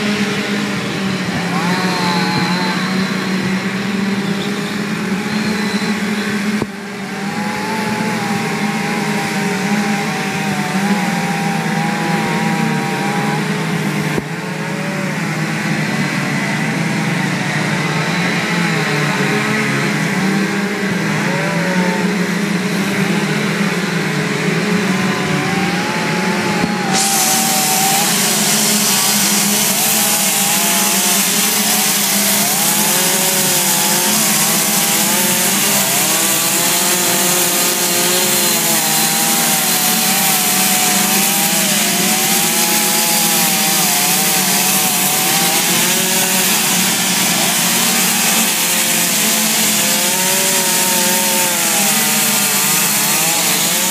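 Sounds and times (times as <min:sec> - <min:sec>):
chainsaw carving wood: 0:00.0 - 0:53.9.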